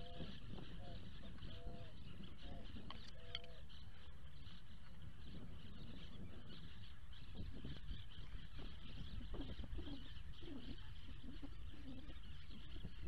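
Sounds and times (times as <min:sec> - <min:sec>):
bird calls: 0:00.0 - 0:13.0.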